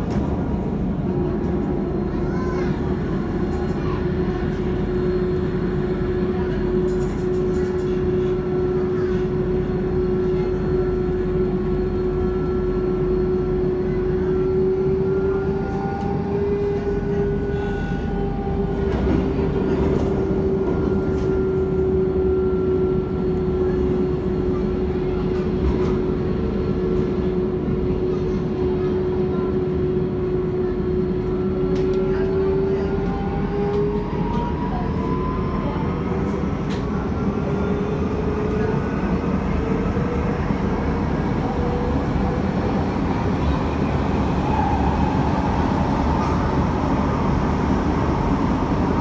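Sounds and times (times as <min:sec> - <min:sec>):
train rolling rumble: 0:00.0 - 0:49.0
train whine: 0:00.0 - 0:49.0.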